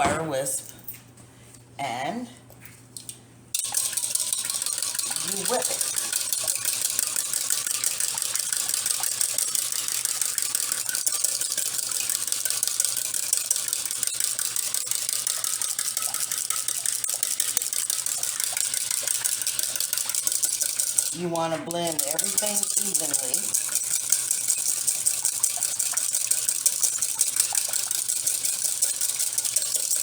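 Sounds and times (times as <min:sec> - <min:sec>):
whisk clicking against bowl: 0:03.6 - 0:30.0.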